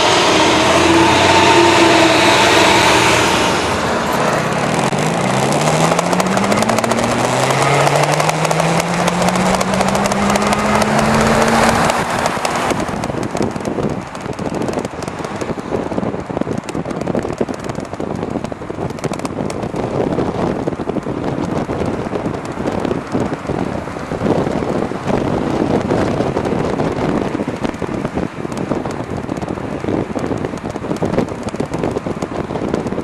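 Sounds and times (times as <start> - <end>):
road noise: 0.0 - 33.0
wind buffeting microphone: 0.0 - 33.0.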